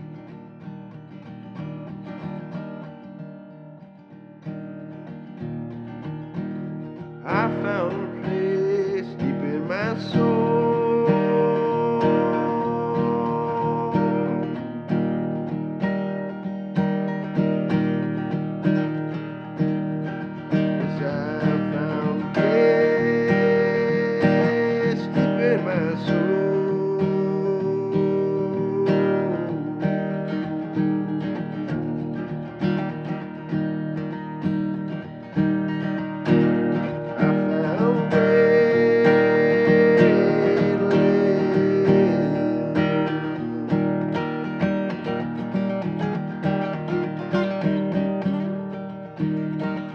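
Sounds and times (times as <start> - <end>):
acoustic guitar strumming chords: 0.0 - 49.9.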